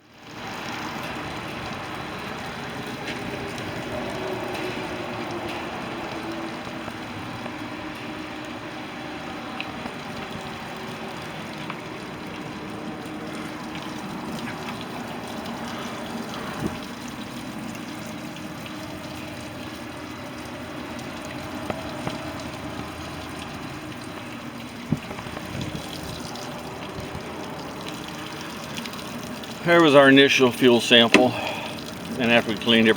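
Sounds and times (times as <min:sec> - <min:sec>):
liquid trickling: 0:00.0 - 0:32.9.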